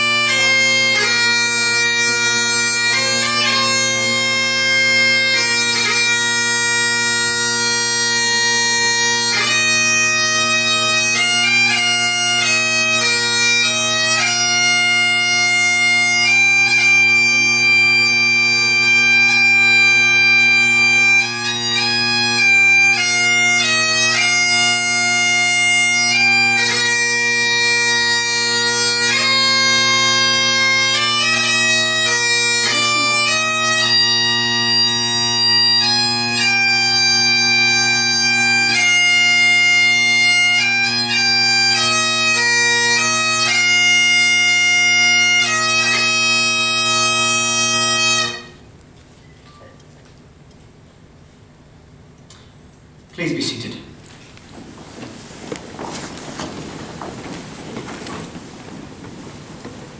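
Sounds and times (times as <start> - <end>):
bagpipes playing a tune: 0.0 - 48.7.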